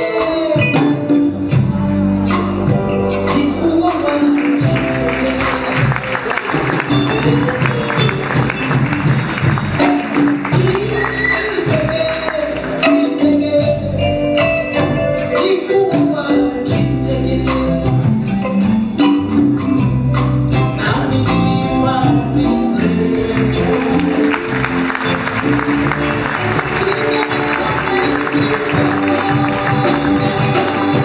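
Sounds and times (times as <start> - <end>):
live band groove: 0.0 - 31.0.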